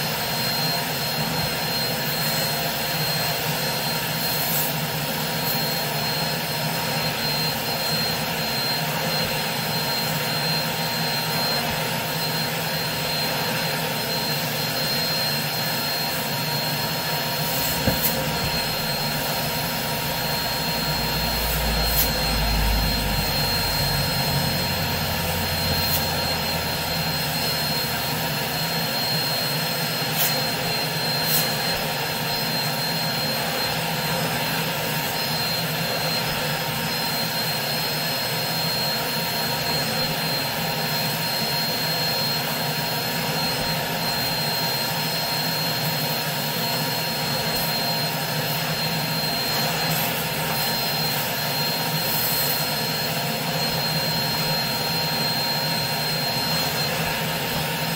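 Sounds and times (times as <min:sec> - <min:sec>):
carpet cleaner roaring with whine: 0:00.0 - 0:57.9.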